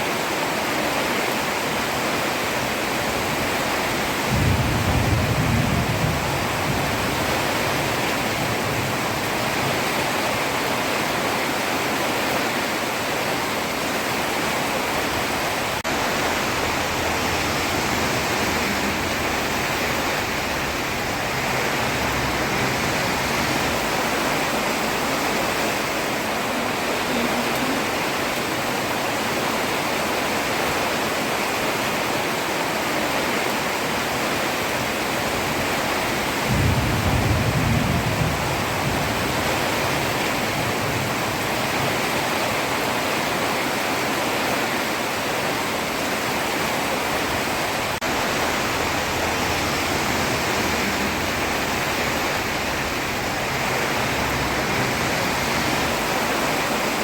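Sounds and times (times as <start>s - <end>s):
heavy rain on a road: 0.0s - 57.0s.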